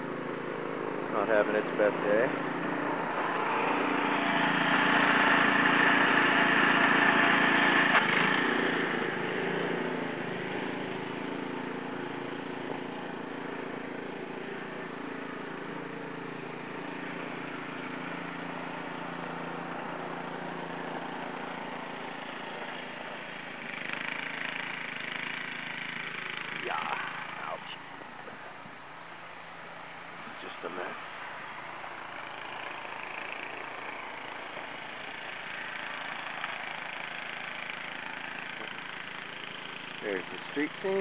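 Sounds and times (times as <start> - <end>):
snowblower engine running: 0.0 - 41.0.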